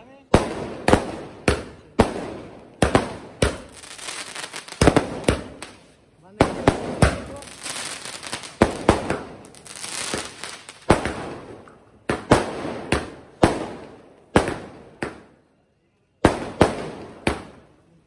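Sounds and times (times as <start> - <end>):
firework crackling: 0.2 - 15.2
firework bangs: 0.2 - 15.4, 16.2 - 17.7.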